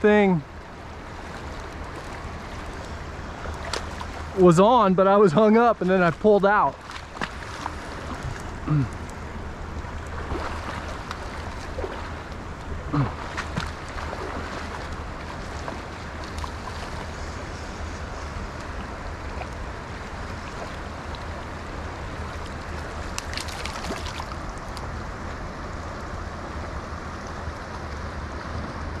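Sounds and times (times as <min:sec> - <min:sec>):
river water rushing over riffle: 0:00.0 - 0:29.0.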